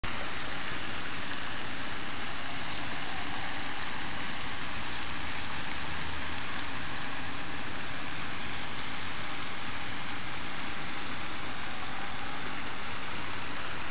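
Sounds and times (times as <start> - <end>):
steady hiss: 0.0 - 13.9.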